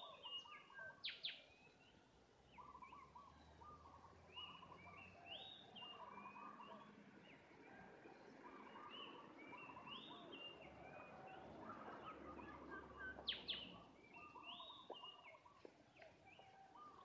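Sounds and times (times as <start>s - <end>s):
small birds calling: 0.0s - 17.0s.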